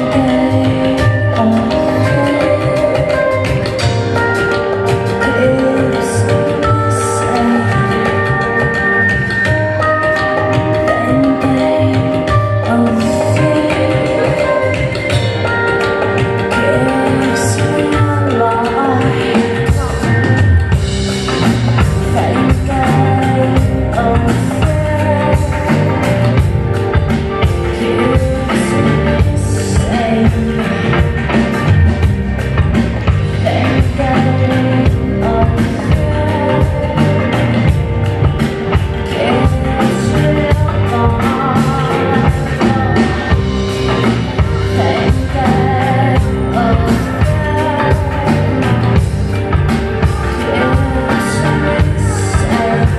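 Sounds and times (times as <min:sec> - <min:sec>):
live band music: 0:00.0 - 0:52.9
woman singing: 0:00.0 - 0:52.9.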